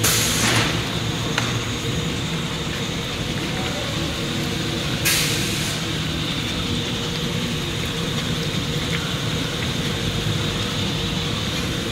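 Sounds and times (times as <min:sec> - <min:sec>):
machinery drone and hiss: 0:00.0 - 0:11.9.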